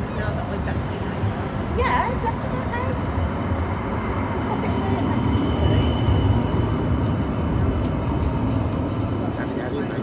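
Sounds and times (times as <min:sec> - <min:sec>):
tram rumbling on track: 0:00.0 - 0:10.0.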